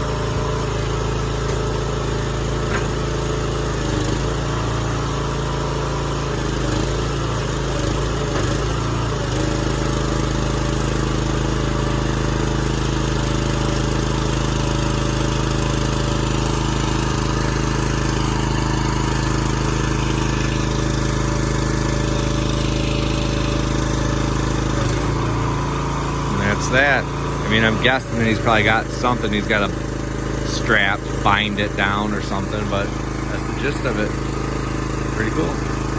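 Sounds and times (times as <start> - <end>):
truck engine running: 0.0 - 35.9.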